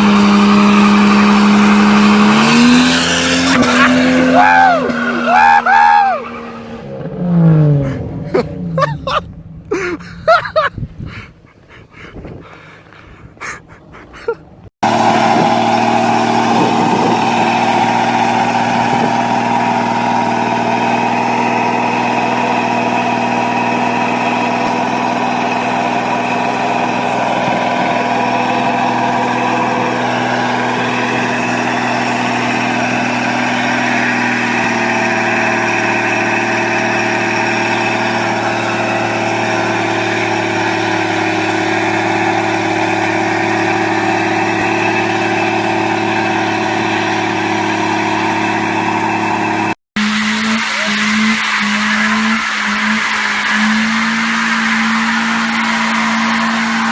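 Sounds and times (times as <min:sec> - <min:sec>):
vehicle engine idling: 0:07.8 - 0:56.9.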